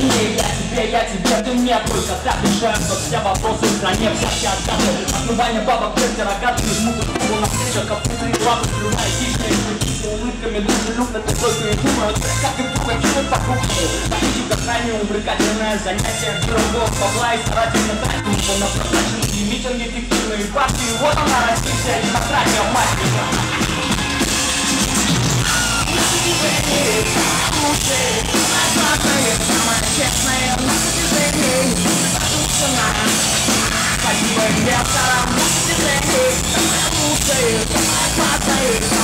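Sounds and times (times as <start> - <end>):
live rock band playing: 0.0 - 39.0
pounding drum kit: 0.0 - 39.0.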